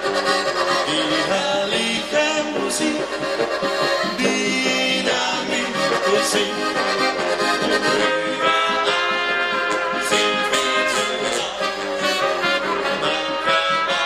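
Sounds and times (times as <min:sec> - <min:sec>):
live folk band playing: 0:00.0 - 0:14.0
trumpet: 0:00.0 - 0:14.0.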